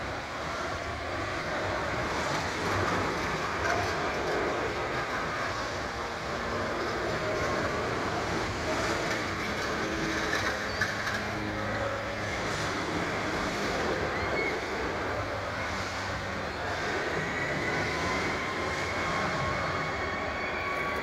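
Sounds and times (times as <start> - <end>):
mechanical rumble of rides: 0.0 - 21.0.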